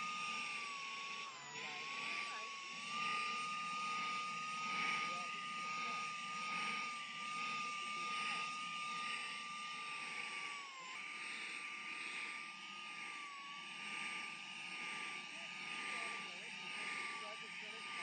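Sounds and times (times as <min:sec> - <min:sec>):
handheld vacuum motor whine: 0:00.0 - 0:18.0.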